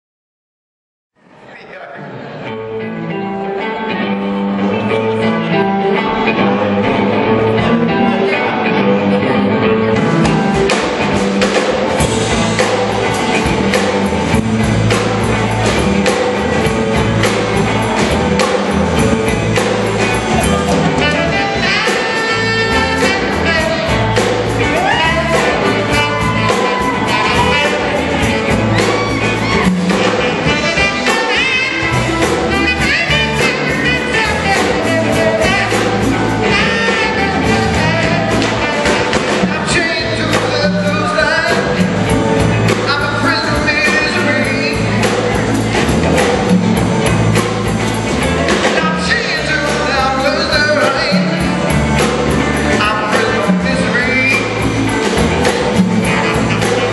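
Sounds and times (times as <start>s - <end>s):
electric guitar: 2.1s - 56.9s
tenor saxophone melody: 2.6s - 56.9s
drum kit beat: 5.9s - 56.9s.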